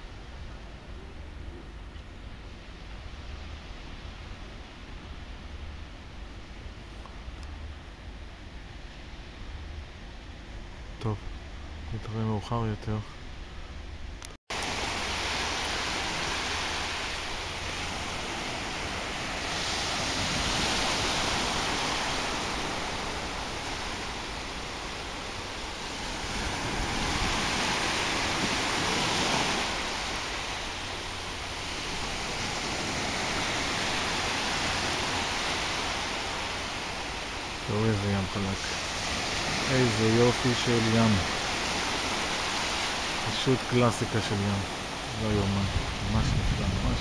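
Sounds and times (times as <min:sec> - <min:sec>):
small waves washing ashore: 0:00.0 - 0:13.0, 0:14.5 - 0:47.0.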